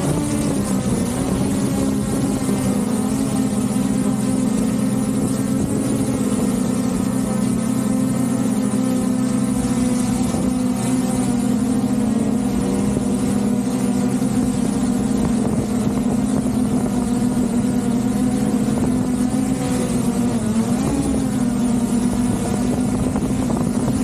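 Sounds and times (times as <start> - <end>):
drone propellers humming: 0.0 - 24.0.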